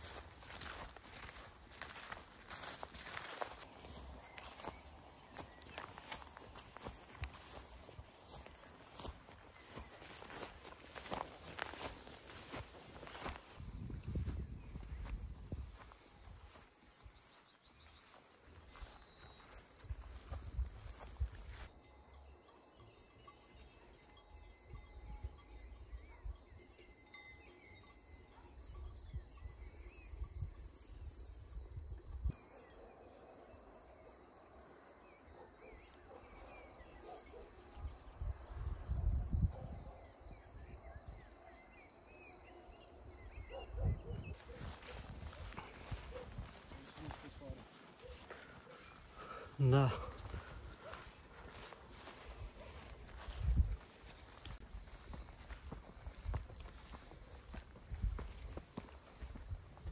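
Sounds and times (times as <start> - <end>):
insects trilling: 0.0 - 32.9, 40.0 - 59.9.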